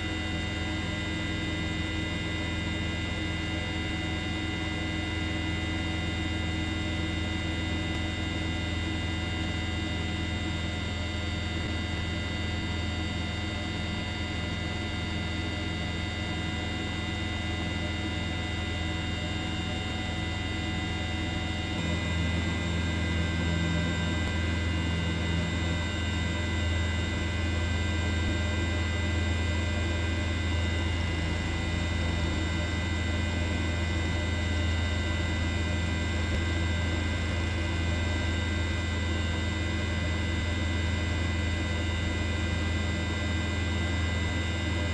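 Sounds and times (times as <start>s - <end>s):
steady droning hum: 0.0s - 44.9s.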